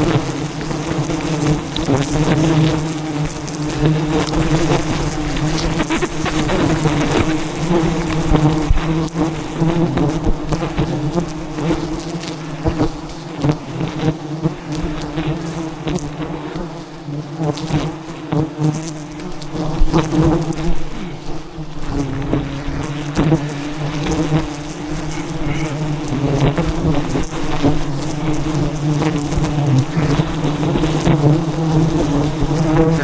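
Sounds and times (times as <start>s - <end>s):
bees buzzing loudly: 0.0s - 33.0s.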